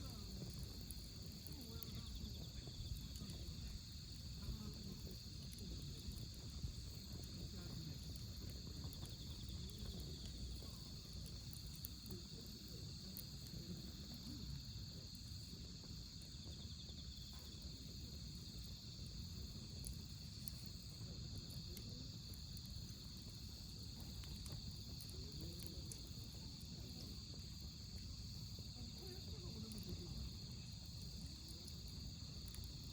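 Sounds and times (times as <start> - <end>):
crickets chirping: 0.0 - 32.9
wood fire crackling: 0.0 - 32.9.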